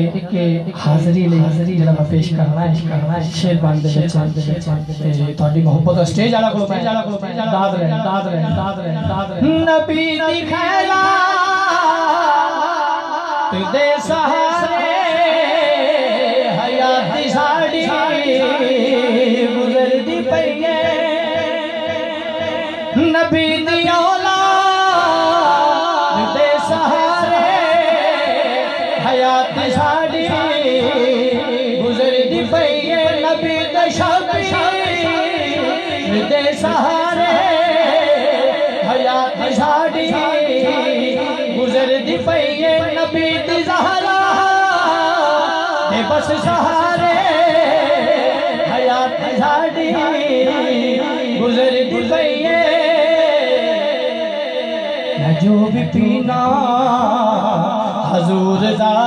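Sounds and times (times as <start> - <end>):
man singing through pa: 0.0 - 59.0.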